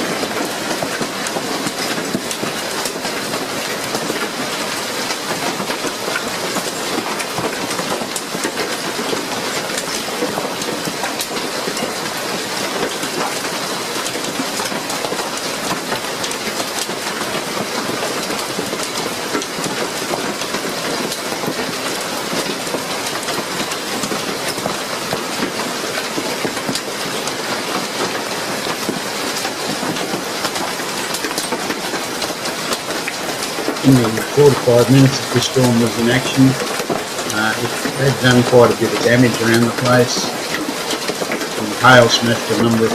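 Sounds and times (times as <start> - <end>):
heavy hail clattering: 0.0 - 42.9.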